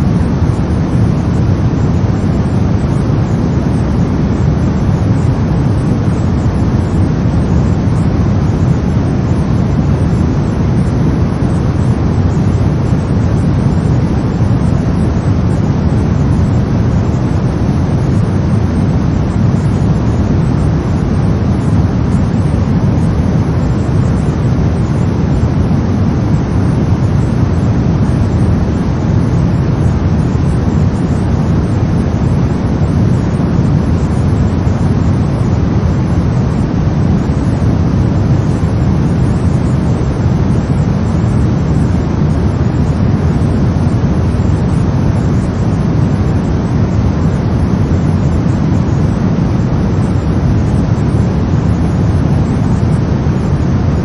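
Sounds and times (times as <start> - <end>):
deep brown noise: 0.0 - 54.0.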